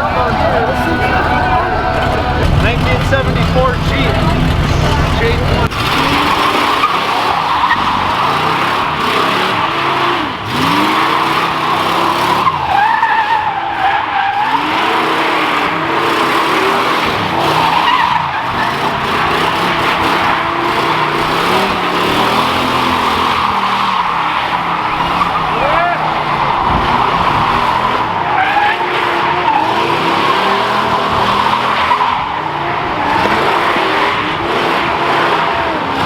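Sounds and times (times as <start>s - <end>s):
car engine revving: 0.0s - 36.0s
tires screeching: 0.0s - 36.0s.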